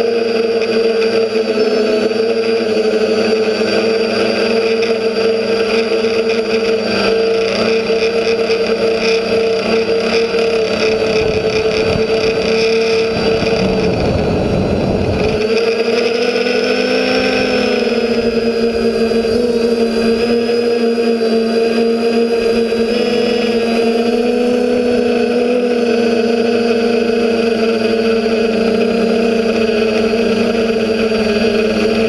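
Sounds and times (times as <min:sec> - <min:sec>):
drone propellers buzzing: 0:00.0 - 0:32.0
rough rushing noise: 0:01.4 - 0:32.0.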